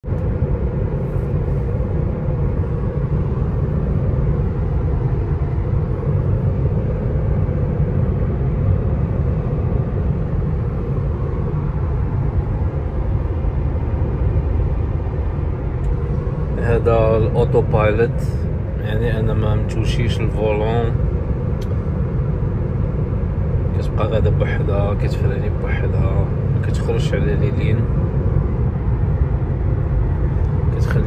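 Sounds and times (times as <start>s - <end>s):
road and tyre rumble: 0.0s - 31.0s.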